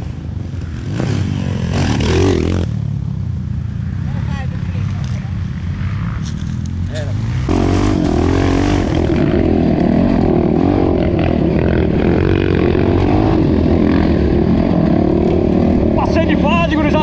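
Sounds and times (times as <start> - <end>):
dirt bike engine revving: 0.6 - 2.8, 5.6 - 17.0.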